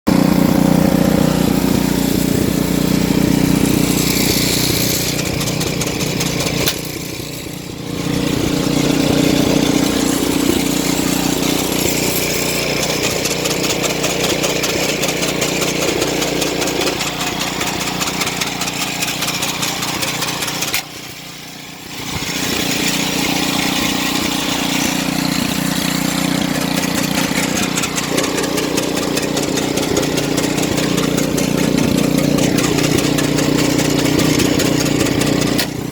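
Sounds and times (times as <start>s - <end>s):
small engine running: 0.1s - 35.9s.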